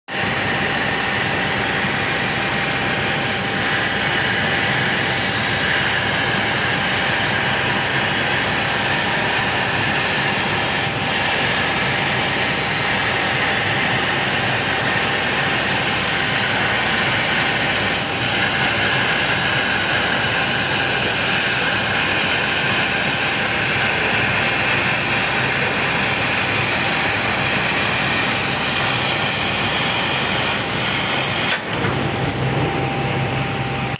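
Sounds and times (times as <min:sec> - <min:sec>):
laser cutting machine running: 0:00.1 - 0:33.9.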